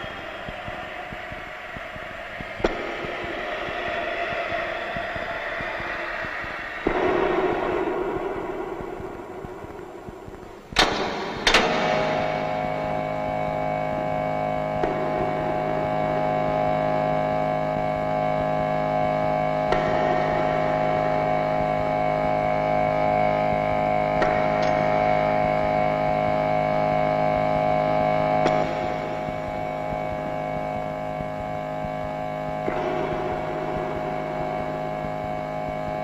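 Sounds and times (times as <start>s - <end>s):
droning hum of held tones: 0.0s - 36.0s.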